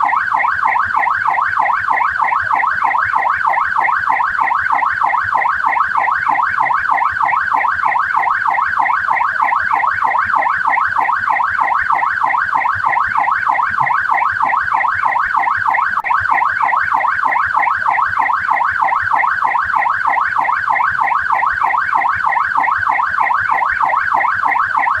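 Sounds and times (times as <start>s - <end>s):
police siren yelping: 0.0s - 25.0s.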